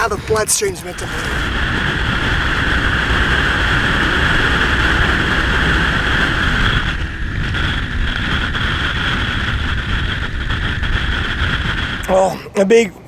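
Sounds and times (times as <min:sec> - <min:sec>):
motorcycle engine drone: 0:00.0 - 0:13.0
wind rushing over camera: 0:00.0 - 0:13.0.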